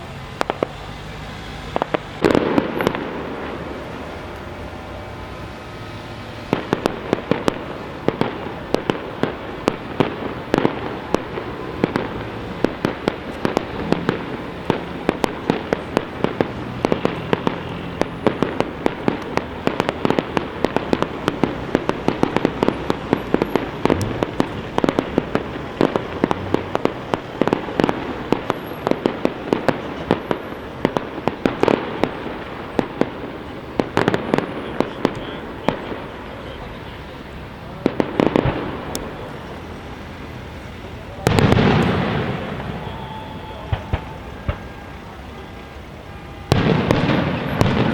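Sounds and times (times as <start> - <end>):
fireworks bursts and bangs: 0.0 - 47.9.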